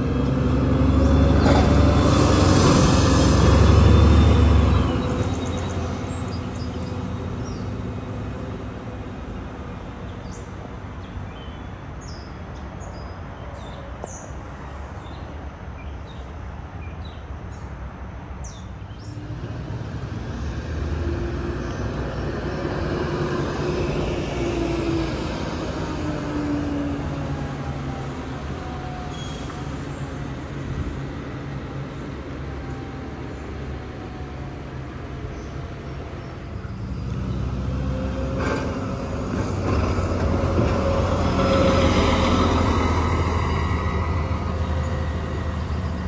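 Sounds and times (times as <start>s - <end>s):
bus engine whine: 0.0s - 15.6s, 18.2s - 46.0s
bus diesel engines rumbling: 0.0s - 46.0s.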